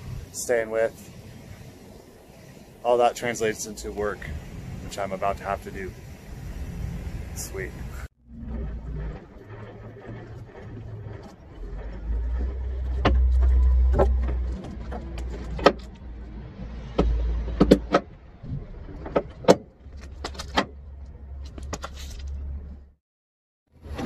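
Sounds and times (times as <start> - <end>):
low steady rumble: 0.0 - 21.6.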